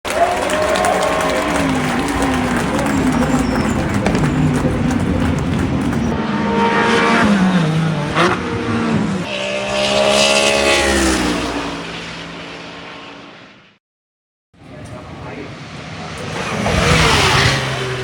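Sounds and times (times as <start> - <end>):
race car engines revving: 0.1 - 13.5, 14.6 - 18.0.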